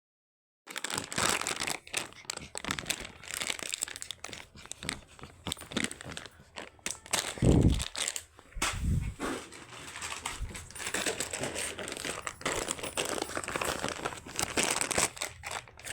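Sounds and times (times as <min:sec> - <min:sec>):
crinkling and tearing material: 0:00.7 - 0:15.9.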